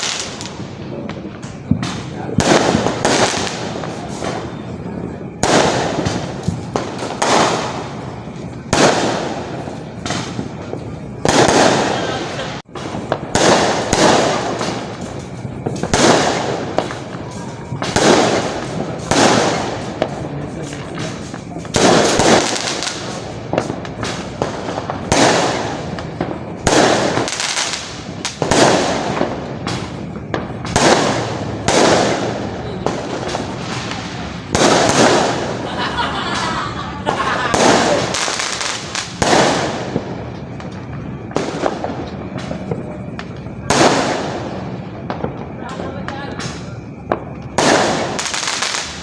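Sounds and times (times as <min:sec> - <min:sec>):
small firework pops: 0:00.0 - 0:35.7, 0:36.3 - 0:49.0
firework bangs: 0:00.0 - 0:49.0.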